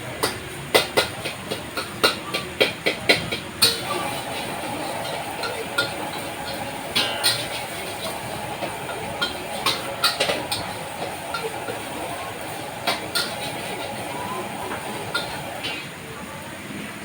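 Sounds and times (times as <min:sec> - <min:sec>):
hiss of cooking: 0:00.0 - 0:17.0
metal spatula clanking on wok: 0:00.2 - 0:16.0.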